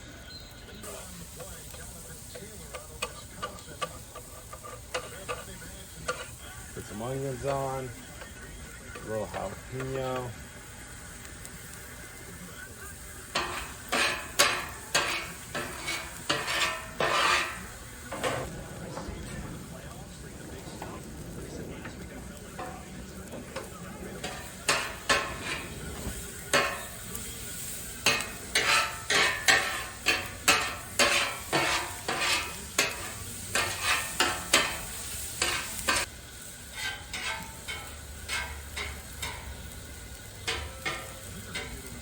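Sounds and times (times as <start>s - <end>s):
onions sizzling in a pan: 0.0s - 42.0s
utensil scraping a pan: 0.8s - 10.4s, 12.9s - 18.5s, 22.4s - 42.0s.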